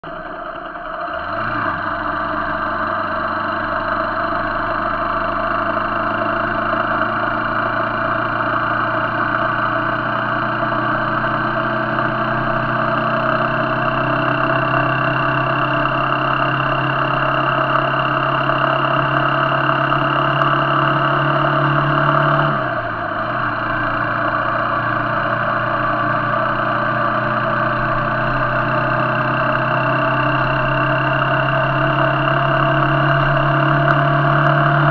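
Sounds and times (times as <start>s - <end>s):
motorcycle engine running: 0.0s - 34.9s
road noise: 0.0s - 34.9s.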